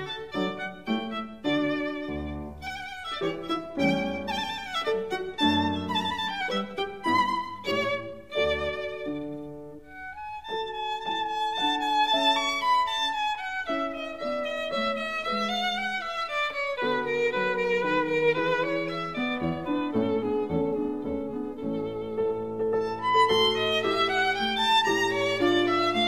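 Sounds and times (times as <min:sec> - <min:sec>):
violin melody: 0:00.0 - 0:26.0.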